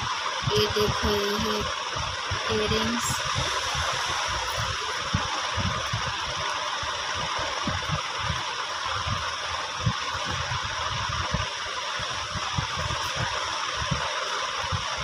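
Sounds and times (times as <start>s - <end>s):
low wind rumbles on microphone: 0.0s - 15.0s
steady background hiss: 0.0s - 15.0s.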